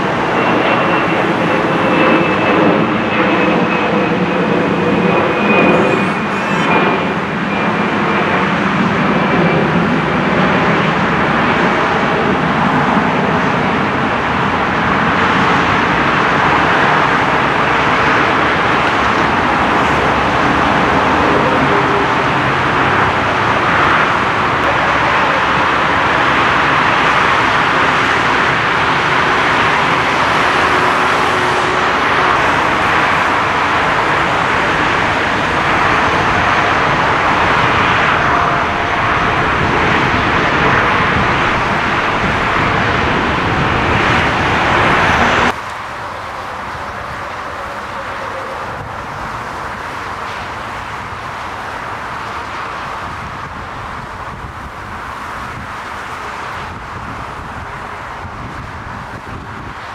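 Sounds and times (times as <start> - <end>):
jet engines at taxi power: 0.0 - 59.9.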